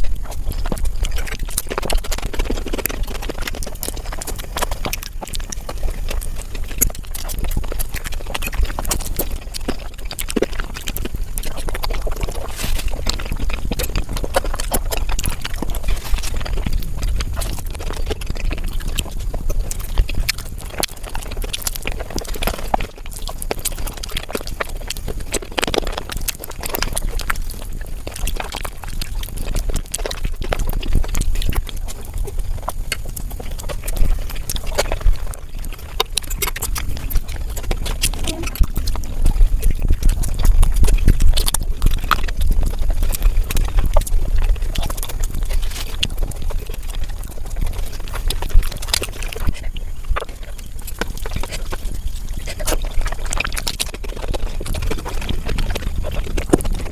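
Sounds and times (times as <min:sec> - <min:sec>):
wet chewing and slurping: 0:00.0 - 0:56.9.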